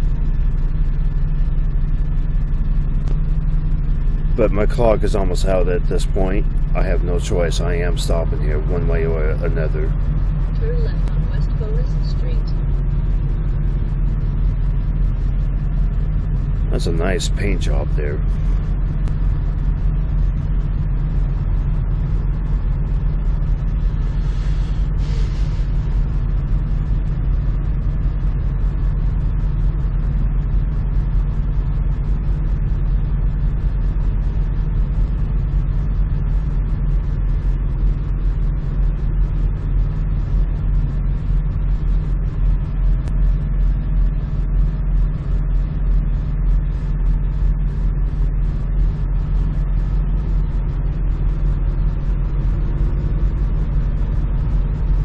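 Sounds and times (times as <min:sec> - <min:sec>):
truck engine rumbling: 0:00.0 - 0:55.0.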